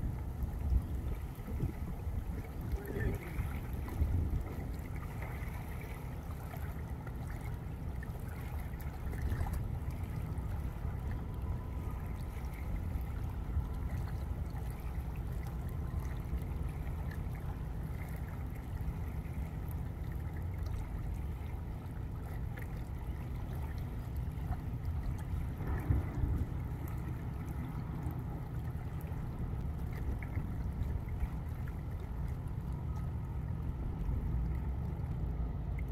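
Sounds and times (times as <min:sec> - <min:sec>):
river water trickling and lapping: 0:00.0 - 0:35.9
wind rumble on microphone: 0:00.0 - 0:35.9.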